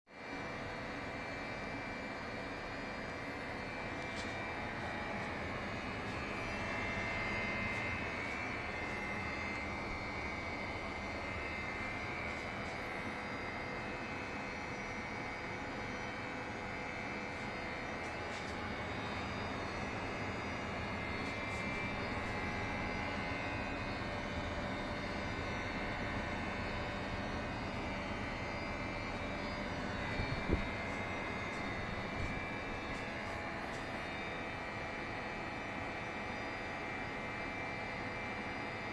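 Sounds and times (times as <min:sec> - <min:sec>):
air conditioner compressor humming: 0:00.2 - 0:38.9
high wavering whine: 0:00.2 - 0:38.9.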